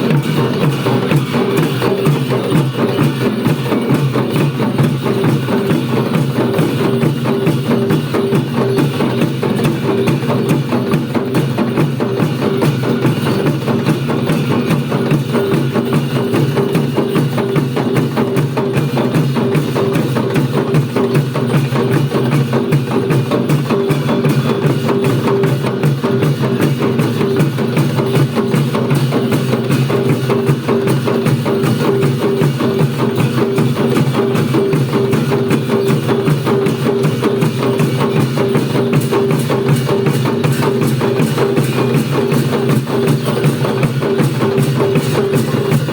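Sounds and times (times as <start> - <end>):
fast drum beating: 0.0 - 45.9.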